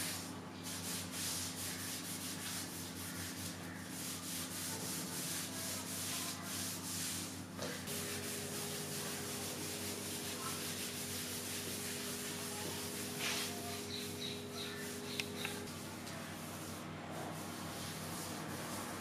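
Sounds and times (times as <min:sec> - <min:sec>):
rag wiping wood: 0:00.0 - 0:19.0.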